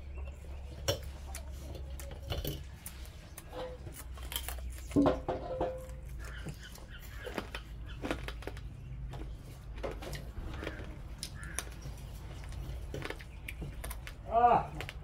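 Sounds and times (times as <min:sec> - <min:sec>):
chewing: 0:00.1 - 0:05.0, 0:05.8 - 0:15.0.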